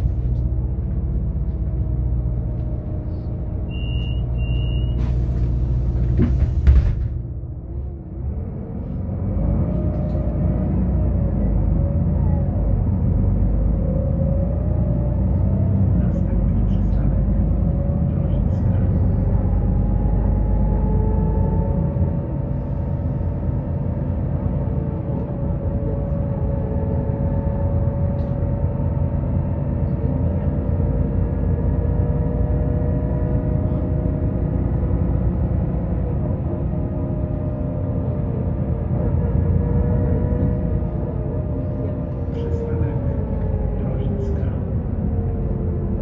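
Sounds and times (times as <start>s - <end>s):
bus drivetrain and tyres rumbling: 0.0s - 46.0s.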